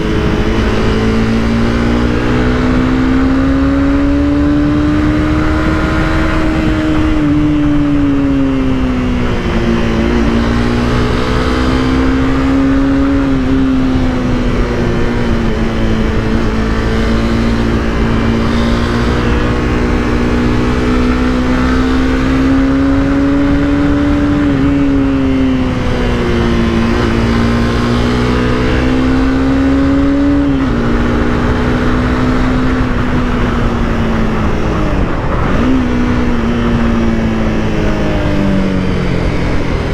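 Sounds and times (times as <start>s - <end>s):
motorcycle engine running: 0.0s - 39.9s
road noise rushing: 0.0s - 39.9s.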